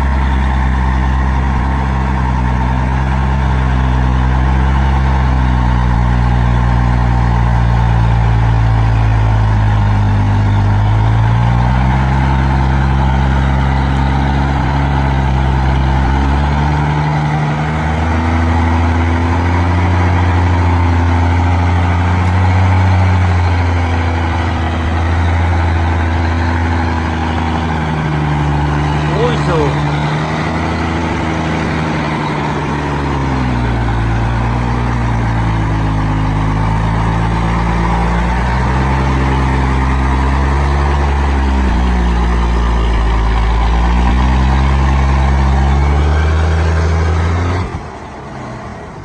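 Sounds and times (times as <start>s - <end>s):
truck diesel engine revving: 0.0s - 49.0s.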